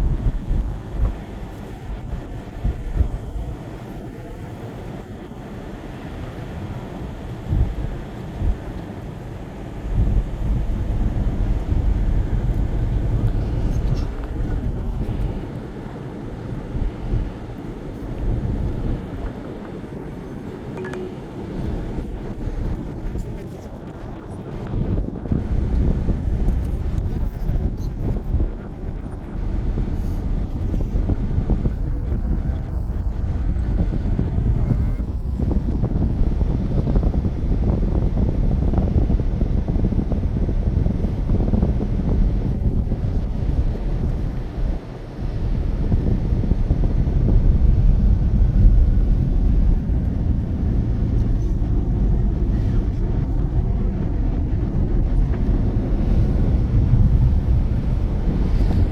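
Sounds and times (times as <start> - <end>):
low road rumble: 0.0 - 58.9
vehicle driving noise: 0.0 - 58.9
wind buffeting microphone: 0.0 - 58.9.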